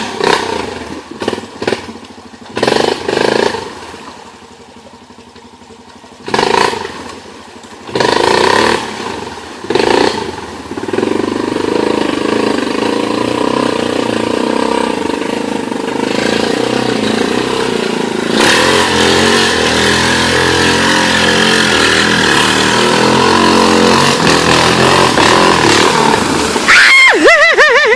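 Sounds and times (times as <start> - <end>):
atv engine running: 0.0 - 27.9.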